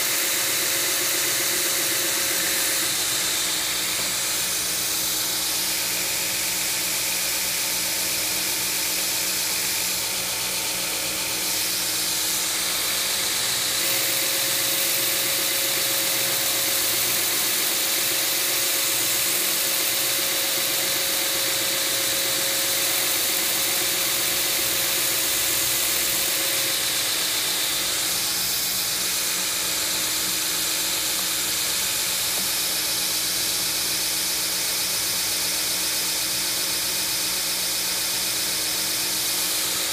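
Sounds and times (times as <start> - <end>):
steel grinding hiss: 0.0 - 33.8
belt grinder running: 0.0 - 39.9.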